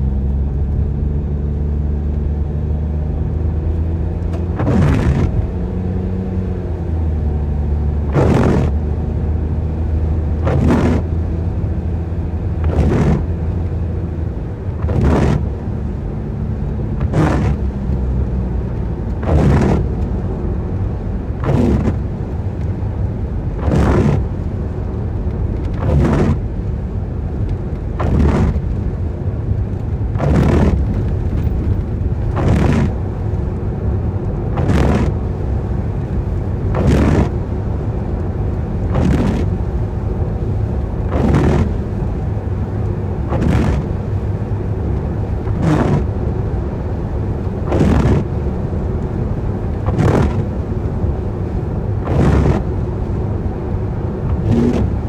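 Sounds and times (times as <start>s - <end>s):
road and engine rumble: 0.0s - 55.0s
windscreen wipers swishing: 0.0s - 55.0s.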